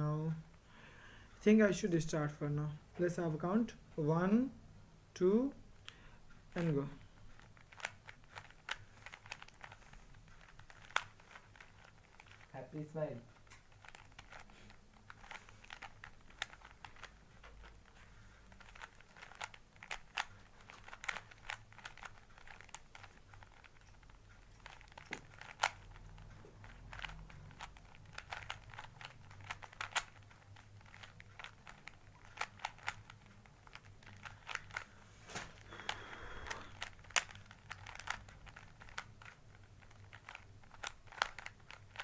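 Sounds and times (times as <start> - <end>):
puzzle cube layers clicking: 5.8 - 12.6, 13.2 - 42.0.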